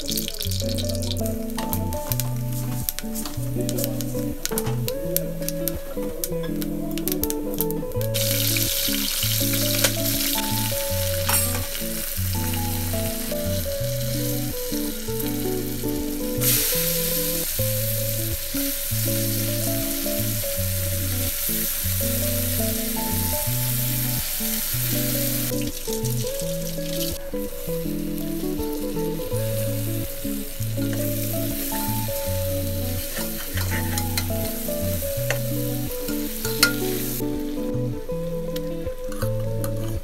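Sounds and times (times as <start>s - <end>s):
hot oil sizzling: 0.0s - 37.7s
background music with bass line: 0.0s - 40.0s.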